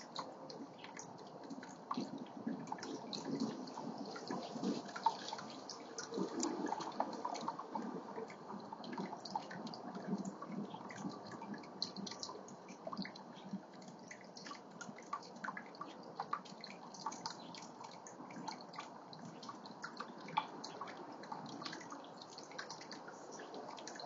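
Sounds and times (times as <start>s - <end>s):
fountain water bubbling and splashing: 0.0s - 24.0s
water drips and plinks: 0.0s - 24.0s.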